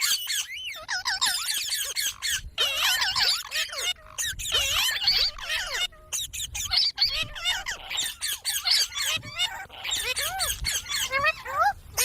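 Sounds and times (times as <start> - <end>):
parrot chattering: 0.0 - 12.0.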